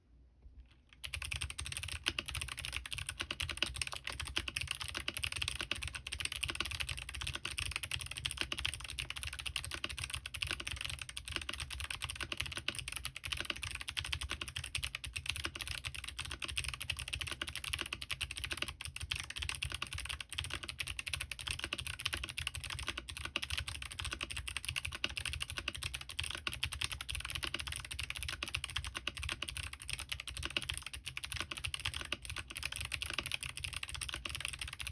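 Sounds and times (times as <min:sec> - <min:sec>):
fast typing on mechanical keyboard: 0:00.9 - 0:34.9.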